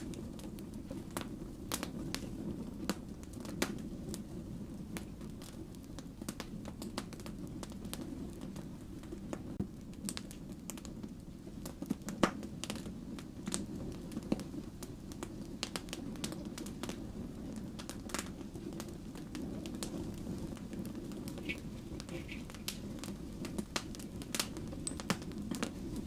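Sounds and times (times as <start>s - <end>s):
fire crackling and popping: 0.0s - 26.0s
firewood burning: 0.0s - 26.0s.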